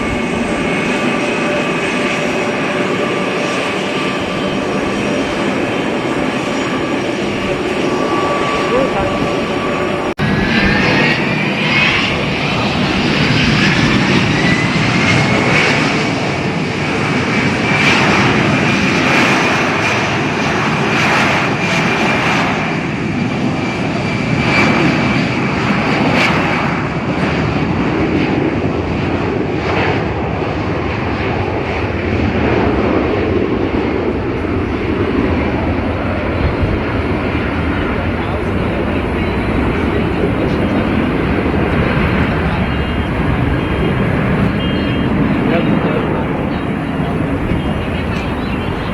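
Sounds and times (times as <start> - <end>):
jet engine whine: 0.0 - 48.9.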